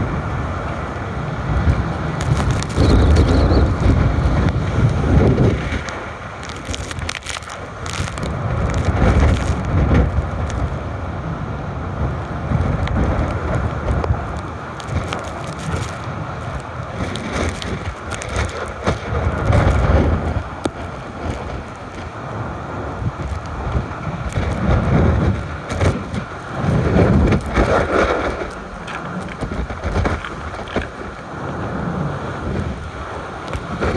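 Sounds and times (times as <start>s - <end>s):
crackles: 0.0s - 10.9s, 12.0s - 33.9s
gusty wind on microphone: 0.0s - 33.9s.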